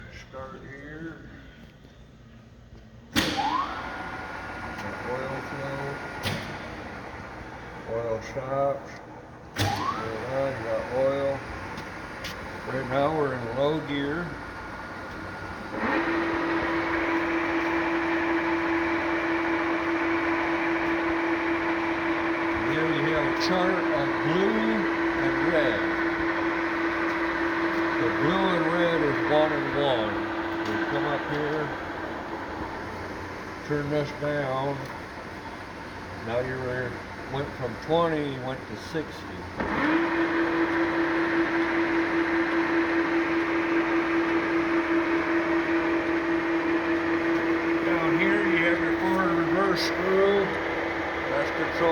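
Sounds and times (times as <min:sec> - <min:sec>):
lathe running: 0:03.5 - 0:51.9.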